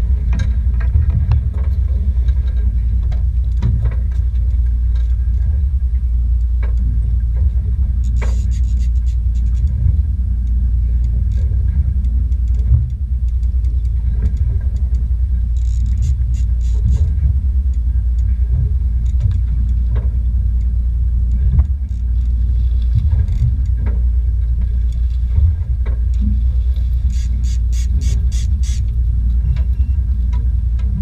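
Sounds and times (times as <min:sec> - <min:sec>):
boat engine rumbling: 0:00.0 - 0:31.0.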